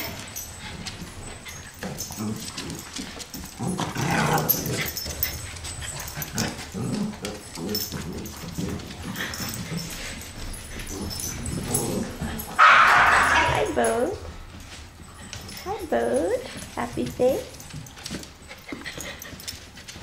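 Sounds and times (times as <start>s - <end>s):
dogs making sounds: 0.0s - 20.0s.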